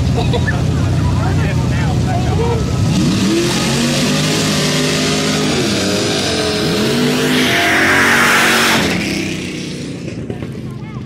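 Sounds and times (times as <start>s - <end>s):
truck engine at full throttle: 0.0s - 11.0s
truck passing by: 0.0s - 11.0s.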